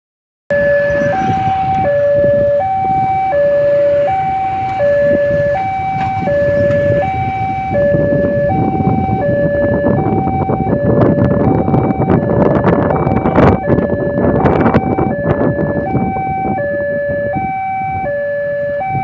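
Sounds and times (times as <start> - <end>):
street traffic noise: 0.5 - 19.0
two-tone crossing warning alarm: 0.5 - 19.0.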